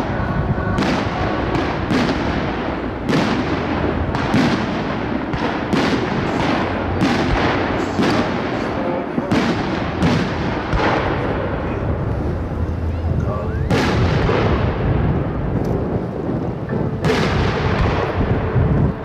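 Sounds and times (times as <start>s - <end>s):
fireworks bursting with loud bangs: 0.0s - 19.0s.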